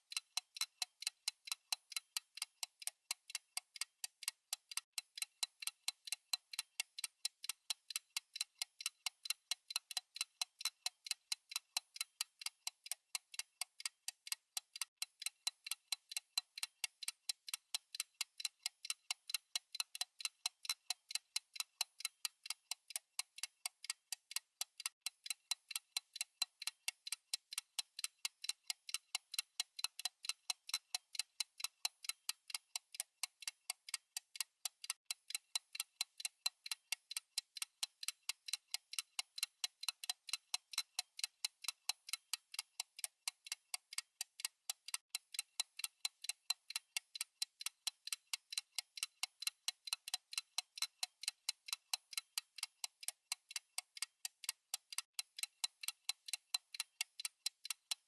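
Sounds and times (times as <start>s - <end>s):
fast clock ticking: 0.0s - 58.0s.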